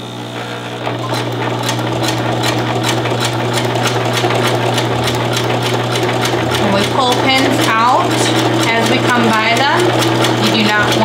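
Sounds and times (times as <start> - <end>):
sewing machine motor humming: 0.0 - 11.0
needle ticking rapidly: 1.6 - 11.0.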